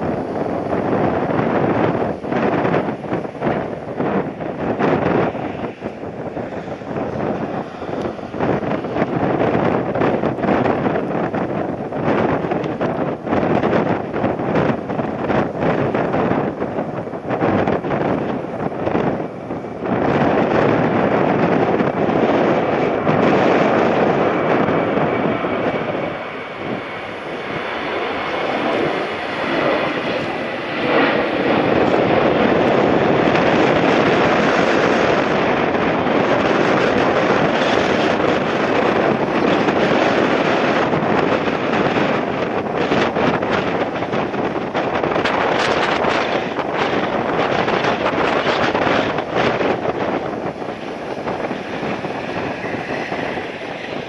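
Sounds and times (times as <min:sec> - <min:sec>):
jet engines running: 0:00.0 - 0:54.0
wind buffeting microphone: 0:00.0 - 0:54.0.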